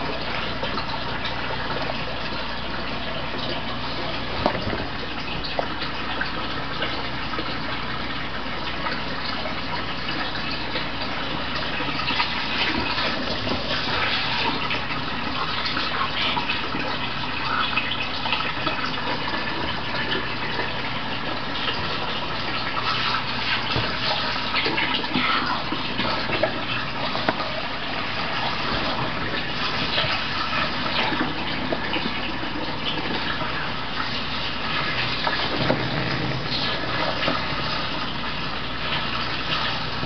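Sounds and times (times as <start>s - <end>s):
water pouring and splashing: 0.0s - 40.0s.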